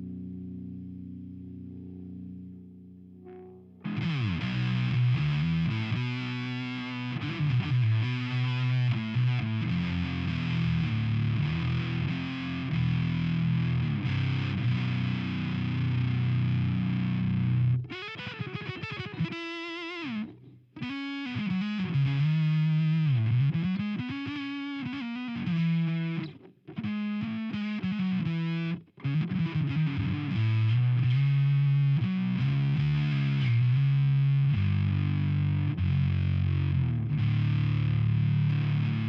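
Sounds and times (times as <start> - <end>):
distorted electric guitar: 0.0 - 39.0.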